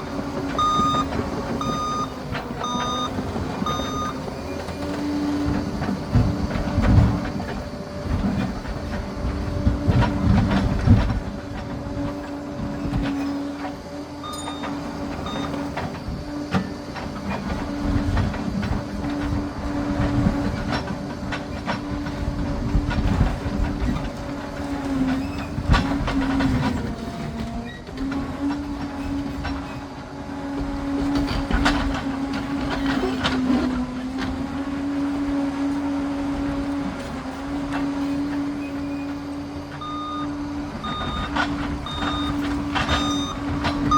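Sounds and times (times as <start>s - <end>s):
dozer engine whine: 0.0s - 43.9s
steel tracks clanking: 0.0s - 43.9s.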